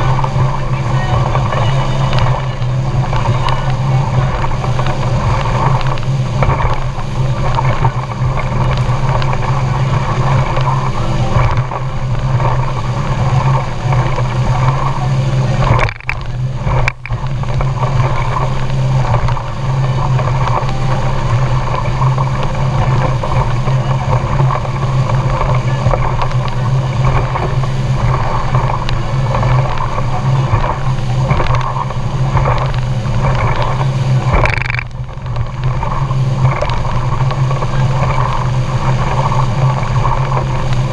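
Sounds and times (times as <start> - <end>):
outboard engine running: 0.0 - 40.9
water noise: 0.0 - 40.9
wind: 0.0 - 40.9.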